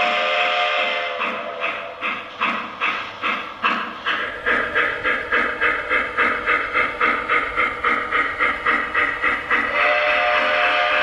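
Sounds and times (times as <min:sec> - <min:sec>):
model steam locomotive chuffs: 0:00.0 - 0:11.0.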